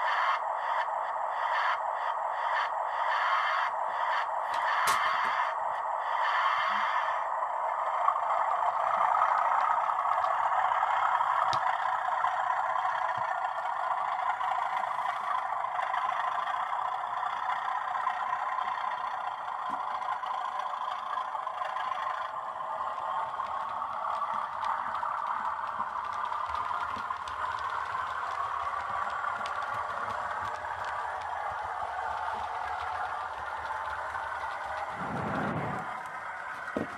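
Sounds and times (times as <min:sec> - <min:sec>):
diesel engine sound from small speaker: 0:00.0 - 0:36.9
model train wheels rattling on rails: 0:00.0 - 0:36.9.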